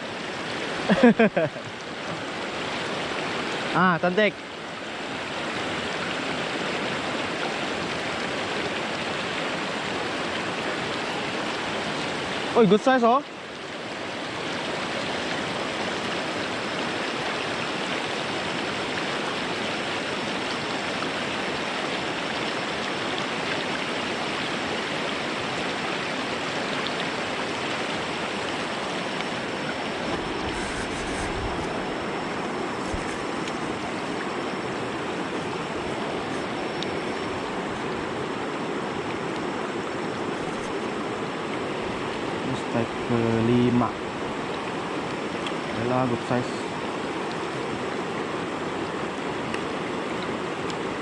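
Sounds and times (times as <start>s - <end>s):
stream rushing: 0.0s - 51.0s.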